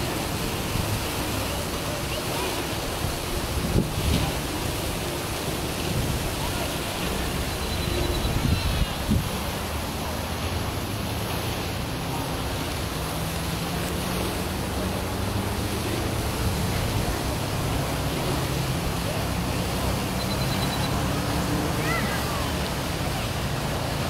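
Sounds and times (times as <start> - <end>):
rushing outdoor background noise: 0.0 - 24.0.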